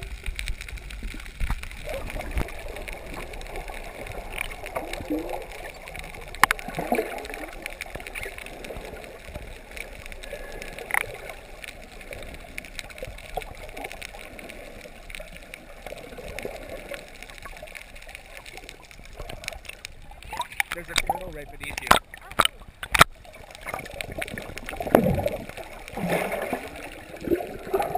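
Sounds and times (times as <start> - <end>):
underwater gurgling water: 0.0 - 27.9.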